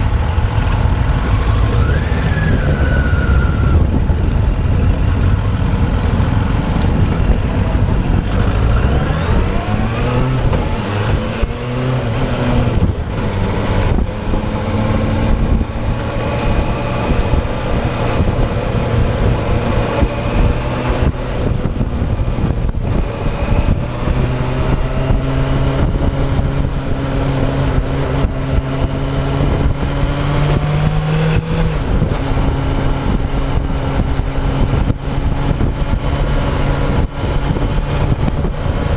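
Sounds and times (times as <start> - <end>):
motorcycle engine: 0.0 - 38.9
wind rumble on microphone: 0.0 - 38.9.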